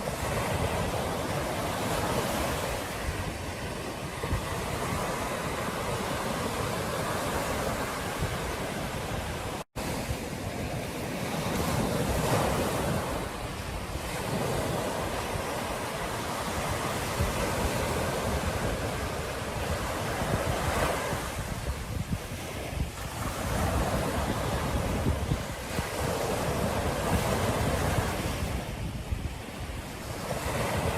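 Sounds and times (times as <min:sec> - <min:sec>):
ocean waves washing onto beach: 0:00.0 - 0:30.9
wind on microphone: 0:00.0 - 0:30.9.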